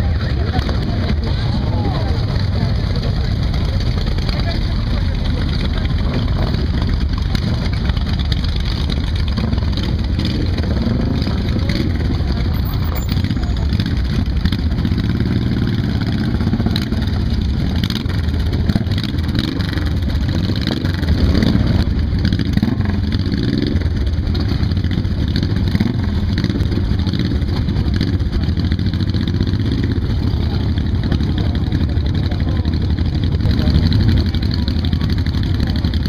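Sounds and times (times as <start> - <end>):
motorcycle revving: 0.0 - 36.0.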